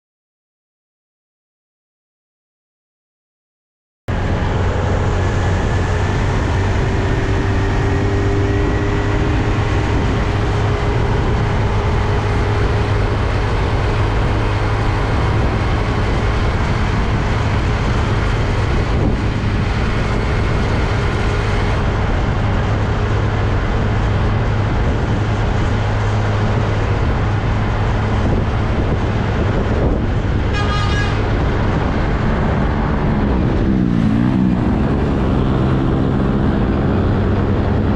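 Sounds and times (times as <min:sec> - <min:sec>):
road noise: 0:04.1 - 0:37.9
truck engines running: 0:04.1 - 0:37.9.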